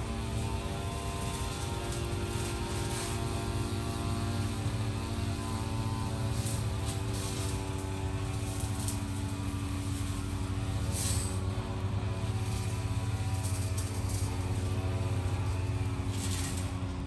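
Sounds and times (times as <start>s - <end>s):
motor droning hum: 0.0s - 17.0s.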